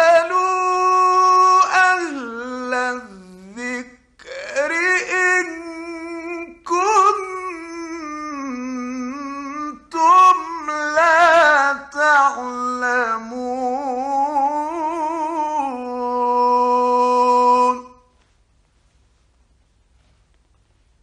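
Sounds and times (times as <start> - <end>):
man chanting melodically: 0.0 - 18.1.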